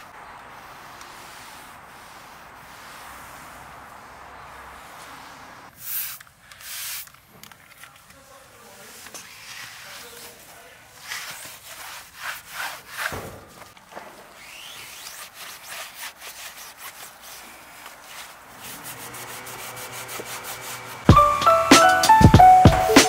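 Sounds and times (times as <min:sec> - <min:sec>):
towel rubbing on plastic: 0:00.0 - 0:07.2, 0:07.9 - 0:21.1.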